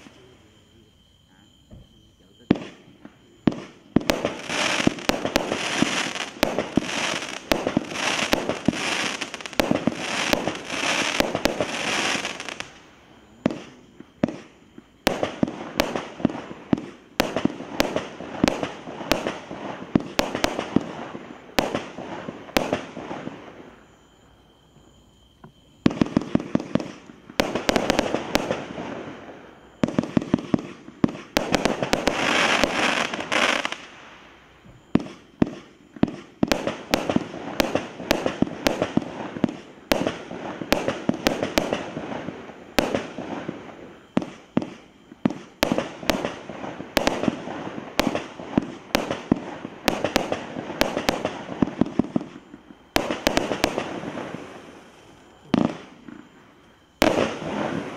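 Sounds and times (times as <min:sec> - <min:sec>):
fireworks launching and bursting: 0:00.0 - 0:01.0, 0:01.7 - 0:23.9, 0:25.4 - 0:57.9.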